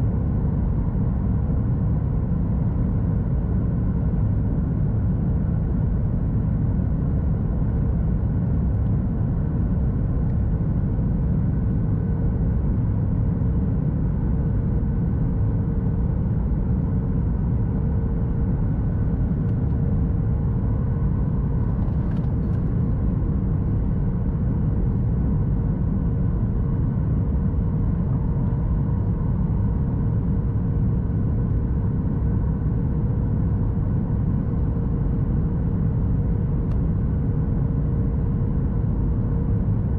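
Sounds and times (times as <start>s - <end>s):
airplane cabin engine rumble: 0.0s - 39.9s
steady hum: 2.8s - 39.9s.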